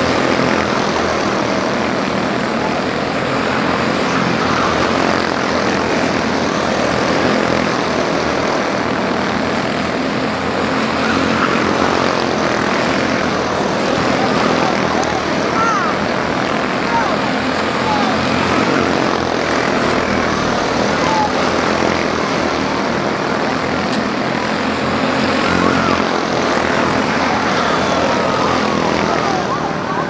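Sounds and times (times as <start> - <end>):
buzz of many small engines: 0.0 - 30.0.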